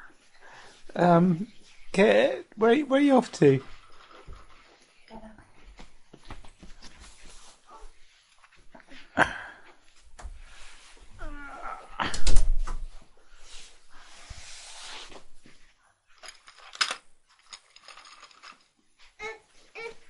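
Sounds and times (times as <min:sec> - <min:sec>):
knocks and rustling of movement: 0:00.0 - 0:20.0.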